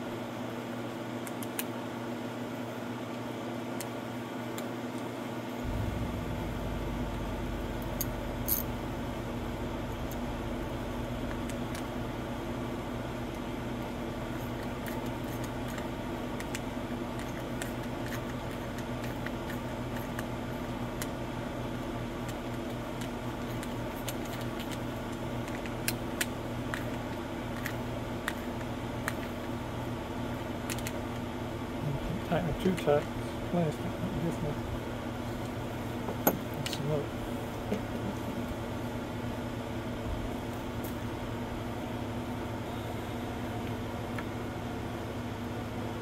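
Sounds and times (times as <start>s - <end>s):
steady mechanical hum: 0.0s - 46.0s.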